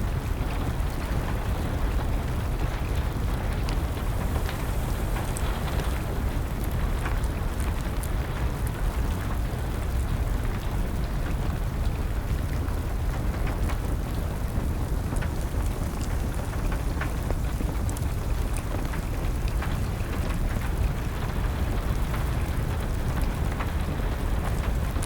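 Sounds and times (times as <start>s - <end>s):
rain: 0.0s - 25.0s
wood fire crackling: 0.0s - 25.0s.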